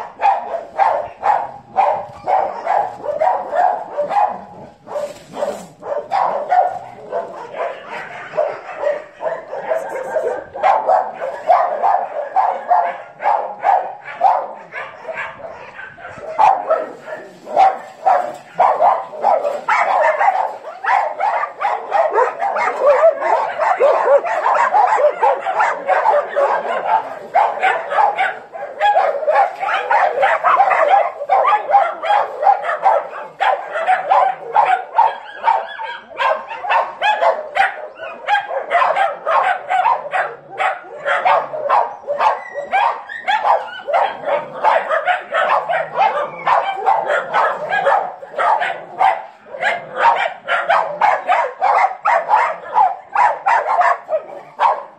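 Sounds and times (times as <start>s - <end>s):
many dogs barking: 0.0s - 54.9s.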